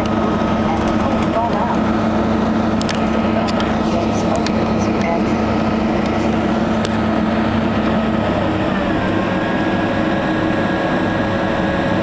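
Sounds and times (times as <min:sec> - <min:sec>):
jet engines rumbling: 0:00.0 - 0:12.0
rushing air: 0:01.8 - 0:11.4.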